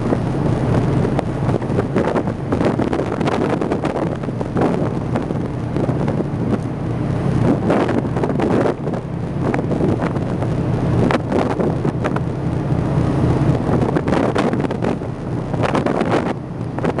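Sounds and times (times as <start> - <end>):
ferry engine low rumble: 0.0 - 17.0
wind buffeting microphone: 0.0 - 17.0.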